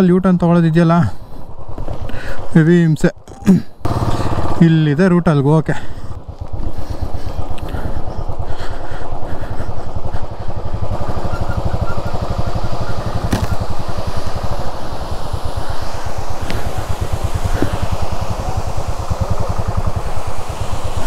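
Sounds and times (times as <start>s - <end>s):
motorcycle engine running at low revs: 3.8s - 21.0s.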